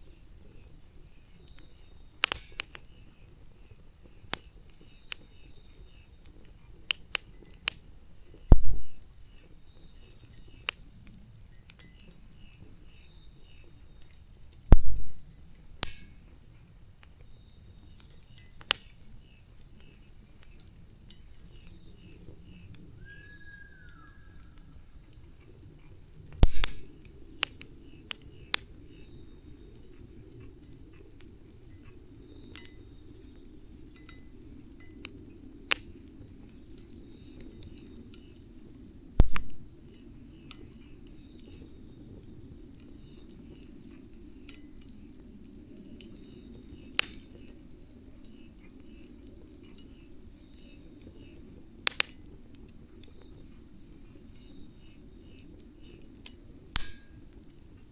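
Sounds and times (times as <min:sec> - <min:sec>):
fire popping and snapping: 0:00.0 - 0:57.9
wood fire crackling: 0:00.0 - 0:57.9.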